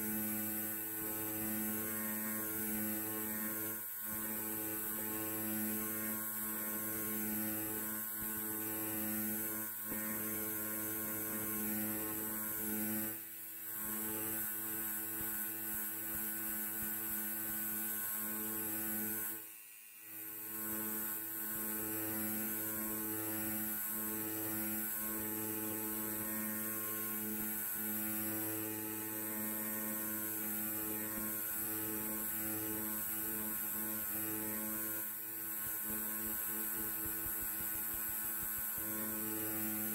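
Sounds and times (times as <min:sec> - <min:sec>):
electric hair clipper buzzing: 0:00.0 - 0:39.9.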